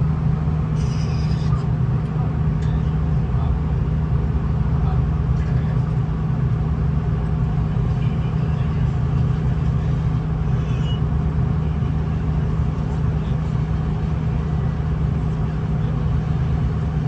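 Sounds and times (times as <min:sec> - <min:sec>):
diesel railcar engine drone: 0:00.0 - 0:17.0.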